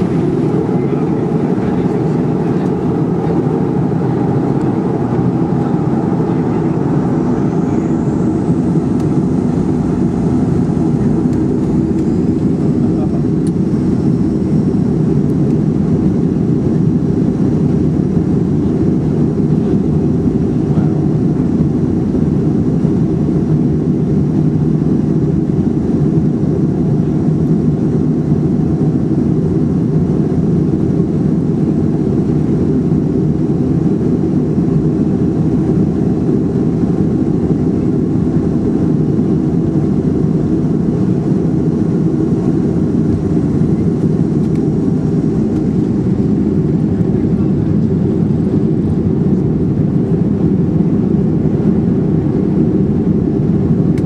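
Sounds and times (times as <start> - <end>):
airplane cabin rumble and hum: 0.0 - 54.0.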